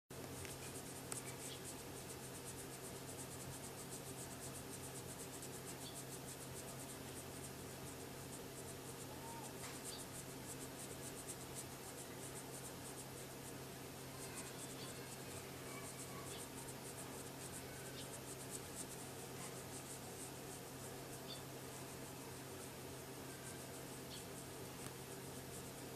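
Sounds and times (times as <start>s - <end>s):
fingers scratching cat fur: 0.2s - 22.1s.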